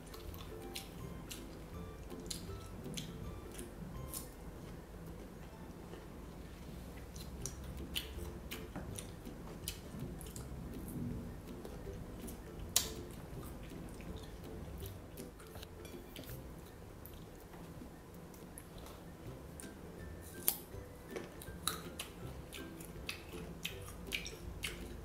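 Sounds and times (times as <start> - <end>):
wet chewing: 0.0 - 4.8, 6.9 - 25.0.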